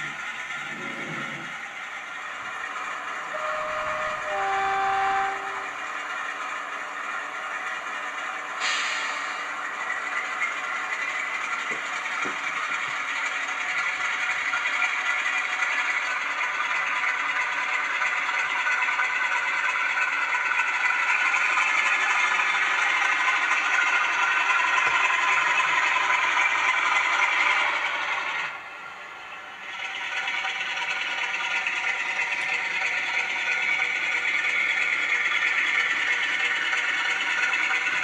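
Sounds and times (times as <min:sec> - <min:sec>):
rattling diesel engine sound: 0:00.0 - 0:38.0.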